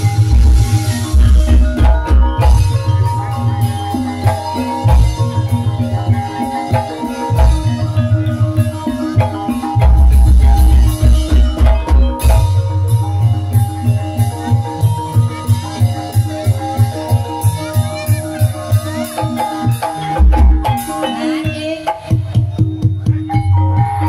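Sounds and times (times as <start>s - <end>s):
heavy rhythmic drumming: 0.0s - 24.0s
struck tuned bars melody: 0.0s - 24.0s.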